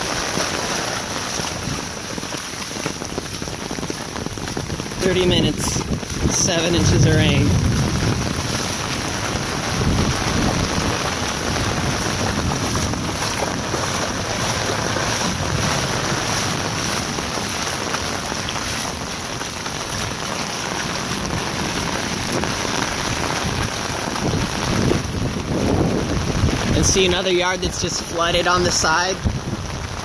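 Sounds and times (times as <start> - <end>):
heavy rain: 0.0 - 30.0
wind buffeting microphone: 0.0 - 30.0.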